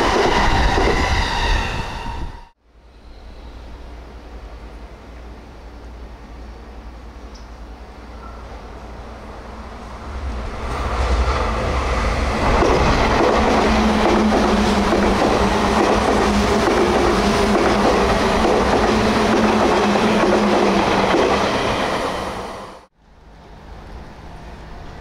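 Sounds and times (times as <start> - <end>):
distant approaching train: 0.0 - 25.0
electric train passing: 0.0 - 25.0.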